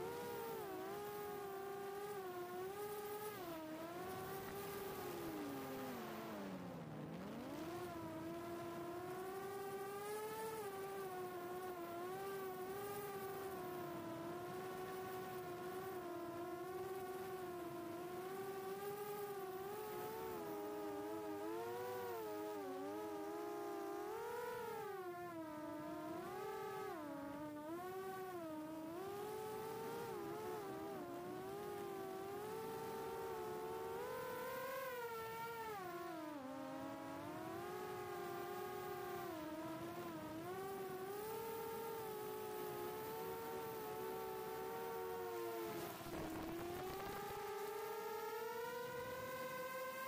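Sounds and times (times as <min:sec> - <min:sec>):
quadcopter motors whining: 0:00.0 - 0:50.0.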